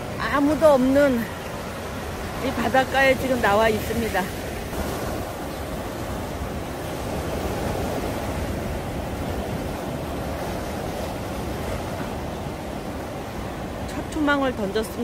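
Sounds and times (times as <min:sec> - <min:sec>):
sea surf breaking on beach: 0:00.0 - 0:15.0.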